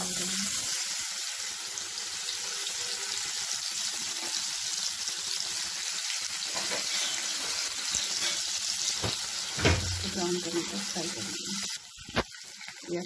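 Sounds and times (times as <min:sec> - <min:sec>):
cheese cubes sizzling in oil: 0:00.0 - 0:13.0.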